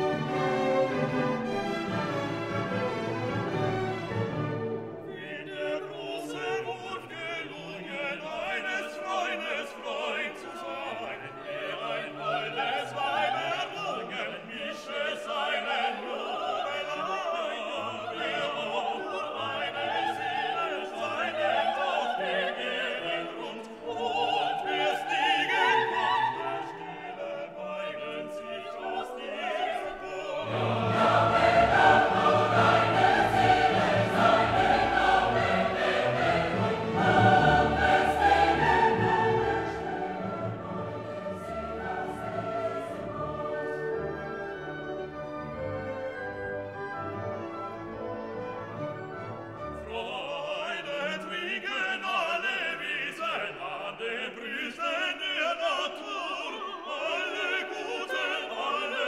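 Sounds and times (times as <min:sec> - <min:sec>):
choral singing with orchestra: 0:00.0 - 0:59.0.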